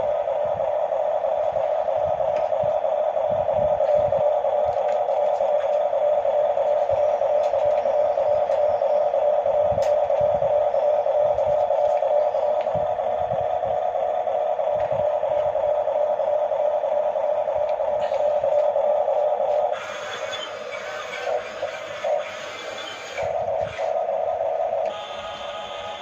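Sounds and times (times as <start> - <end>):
bulldozer engine drone: 0.0 - 26.0.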